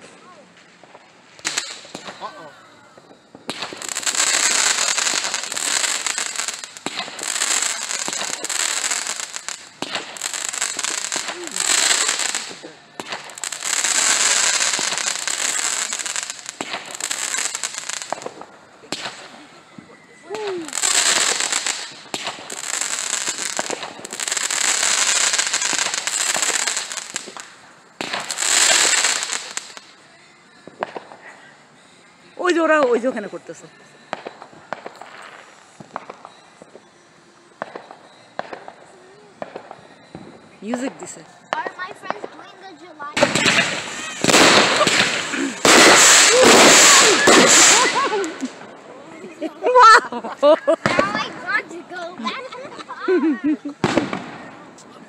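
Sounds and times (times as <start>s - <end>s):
fireworks hissing crackle: 0.0s - 55.0s
fireworks popping: 0.0s - 55.0s.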